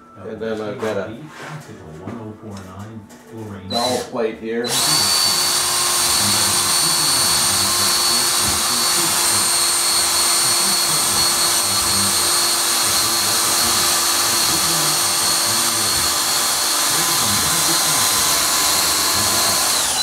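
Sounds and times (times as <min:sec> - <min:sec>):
cordless drill whining: 0:03.7 - 0:20.0.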